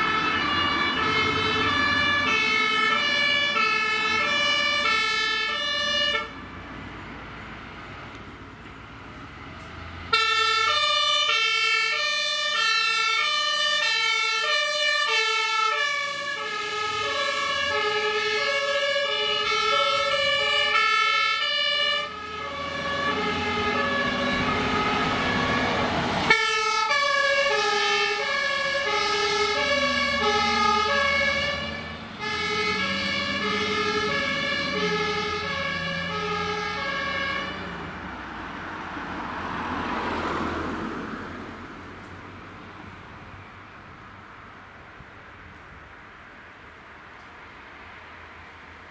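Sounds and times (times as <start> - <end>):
two-tone fire engine sirens: 0.0 - 8.2, 8.8 - 41.8
road noise: 0.0 - 48.9
truck engine: 0.0 - 48.9.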